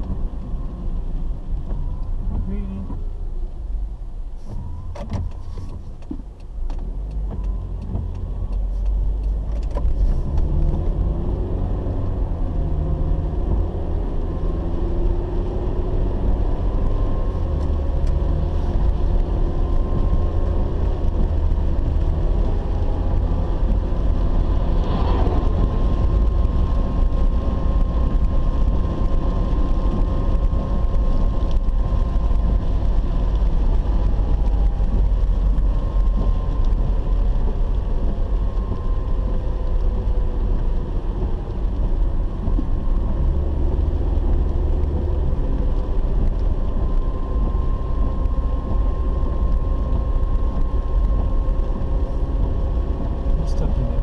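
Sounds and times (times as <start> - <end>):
car driving on wet road: 0.0 - 54.0.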